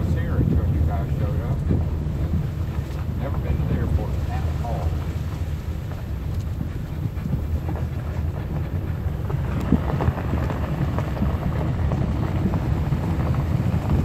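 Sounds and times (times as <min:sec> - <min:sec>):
gravel ticks and crunches: 0:00.0 - 0:14.0
tyre and road rumble: 0:00.0 - 0:14.0.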